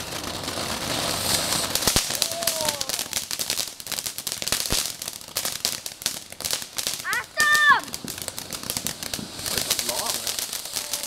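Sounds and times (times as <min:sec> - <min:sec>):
fireworks crackling: 0:00.0 - 0:11.0
loud firework bangs: 0:00.0 - 0:11.0.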